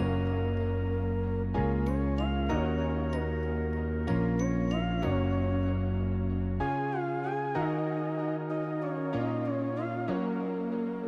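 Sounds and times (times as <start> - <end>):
background music with sustained chords: 0.0 - 11.0.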